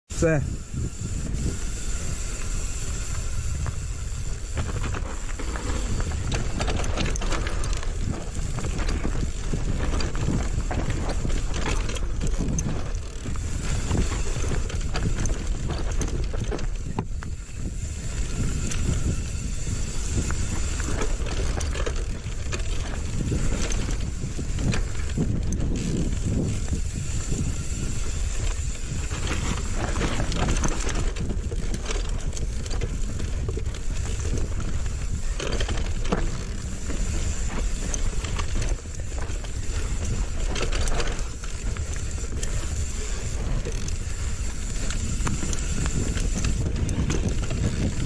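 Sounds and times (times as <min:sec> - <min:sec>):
bike rattling and knocking: 0:00.1 - 0:48.0
wind on microphone: 0:00.1 - 0:48.0
tyres rumbling over dirt: 0:00.2 - 0:48.0.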